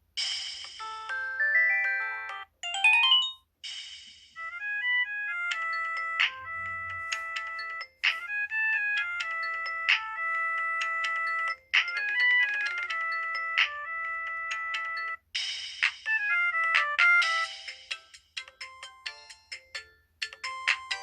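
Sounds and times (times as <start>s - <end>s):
polyphonic ringtone melody: 0.8s - 3.5s, 4.4s - 15.2s, 16.1s - 21.0s.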